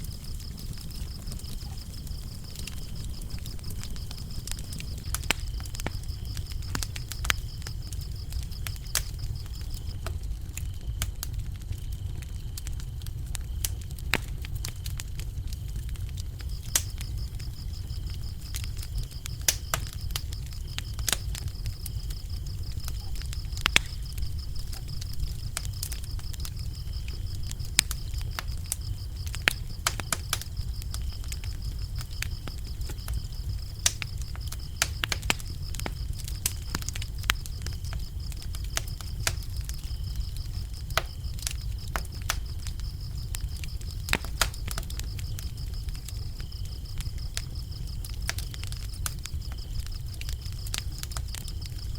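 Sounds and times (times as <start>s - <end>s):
crickets trilling: 0.0s - 51.9s
wood fire crackling and popping: 0.0s - 51.9s.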